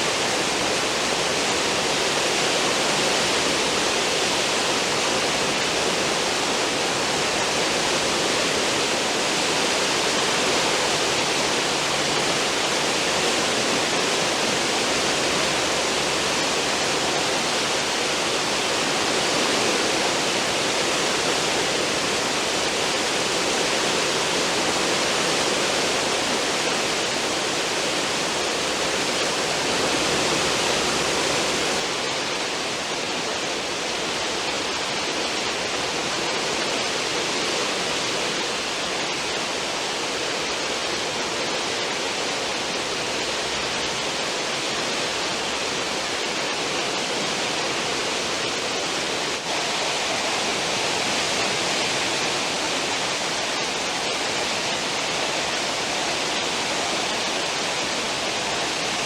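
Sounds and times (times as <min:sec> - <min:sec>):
water rushing and churning: 0:00.0 - 0:59.0.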